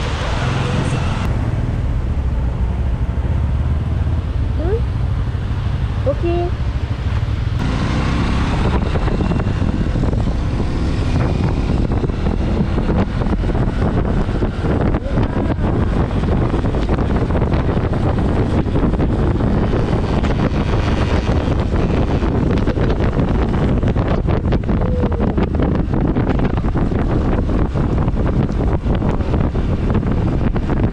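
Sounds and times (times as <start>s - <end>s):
wind buffeting microphone: 0.0s - 30.9s
motorcycle engine running: 0.6s - 30.9s.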